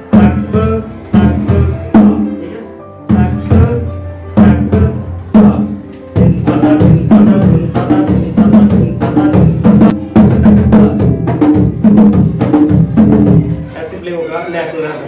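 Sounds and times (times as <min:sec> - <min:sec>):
congas played by hand: 0:00.0 - 0:14.0.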